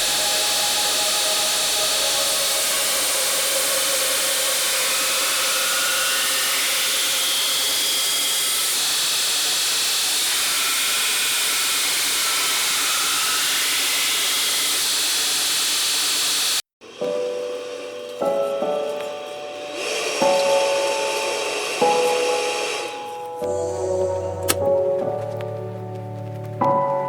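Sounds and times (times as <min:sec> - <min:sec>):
workshop machine hissing: 0:00.0 - 0:18.8, 0:19.5 - 0:24.6.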